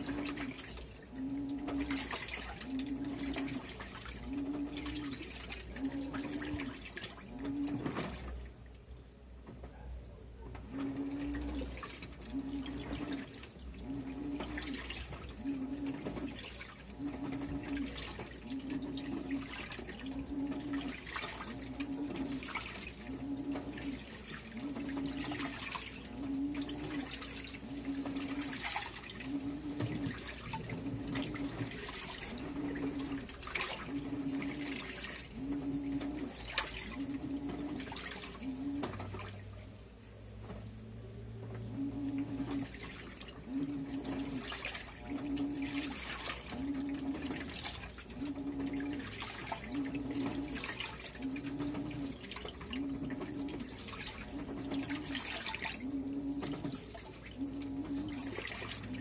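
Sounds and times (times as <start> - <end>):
washing machine motor humming: 0.0 - 59.0
water sloshing and splashing: 0.0 - 59.0.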